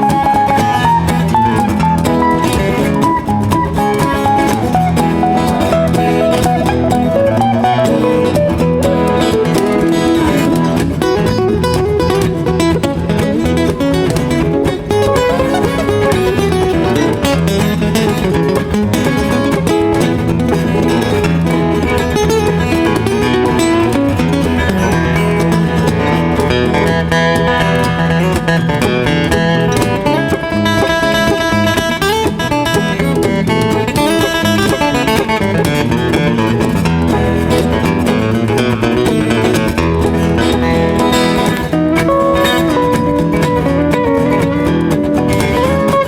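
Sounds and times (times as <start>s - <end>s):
lead guitar melody: 0.0s - 46.0s
steady beat: 0.0s - 46.0s
strummed rhythm guitars: 0.0s - 46.0s.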